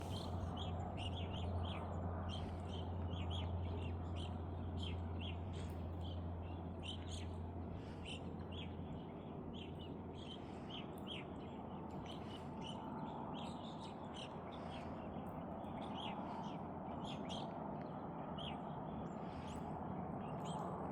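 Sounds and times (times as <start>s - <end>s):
songbirds chirping: 0.0s - 20.9s
steady low rumble: 0.0s - 20.9s.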